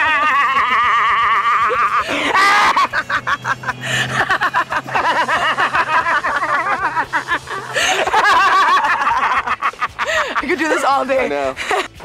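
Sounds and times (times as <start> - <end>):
man laughing: 0.0 - 10.8
woman laughing: 0.0 - 11.0, 11.6 - 12.0
steady low hum: 0.1 - 10.4.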